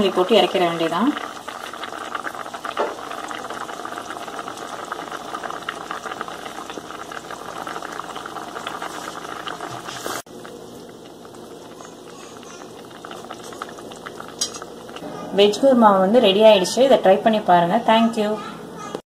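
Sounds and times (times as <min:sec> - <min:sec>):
thick gravy bubbling in a pan: 0:00.0 - 0:15.6.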